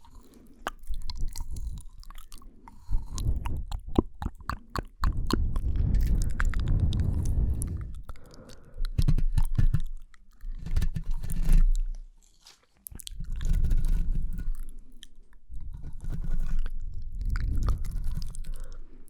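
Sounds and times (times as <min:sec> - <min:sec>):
lip and tongue clicks and smacks: 0:00.0 - 0:12.0, 0:12.8 - 0:18.9.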